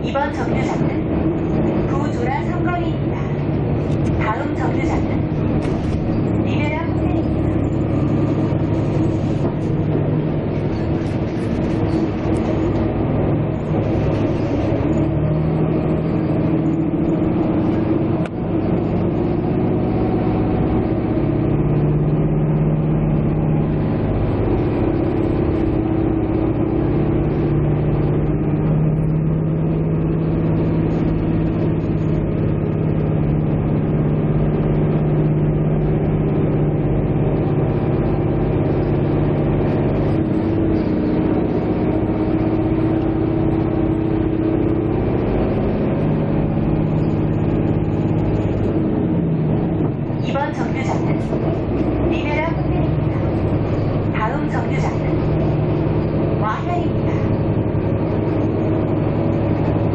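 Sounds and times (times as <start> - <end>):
vehicle engine and road drone: 0.0 - 59.9.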